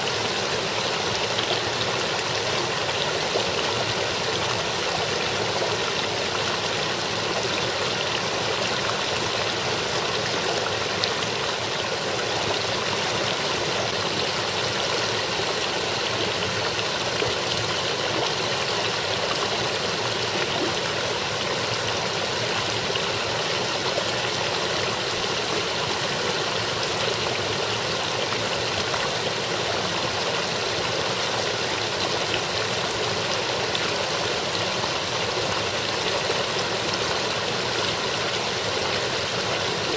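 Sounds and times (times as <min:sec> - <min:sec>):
brook splashing over rocks: 0:00.0 - 0:39.9.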